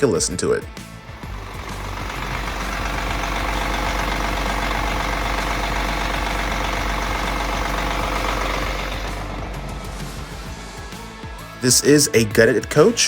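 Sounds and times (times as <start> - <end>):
diesel engine idling: 0.9 - 11.6.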